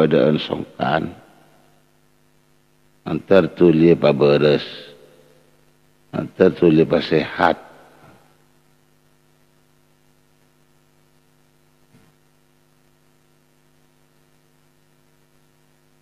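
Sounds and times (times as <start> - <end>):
faint mains hum: 0.0 - 16.0.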